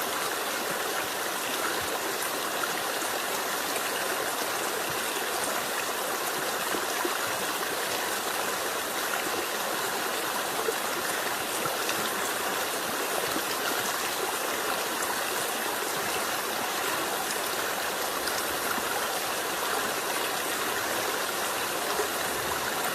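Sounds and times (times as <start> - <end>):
water rushing: 0.0 - 22.9.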